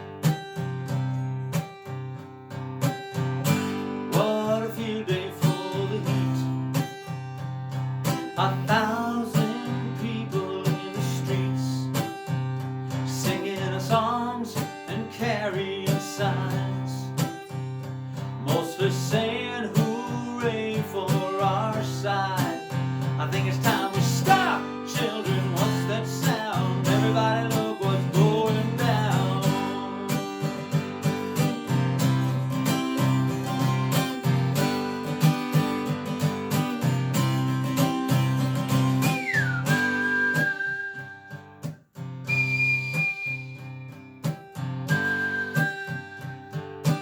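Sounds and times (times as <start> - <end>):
guitar strumming with melody: 0.0 - 47.0.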